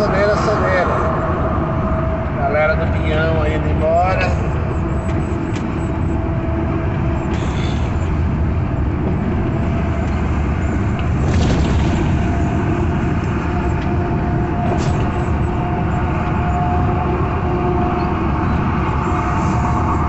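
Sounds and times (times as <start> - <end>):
road rumble: 0.0 - 20.0
truck engine drone: 0.0 - 20.0.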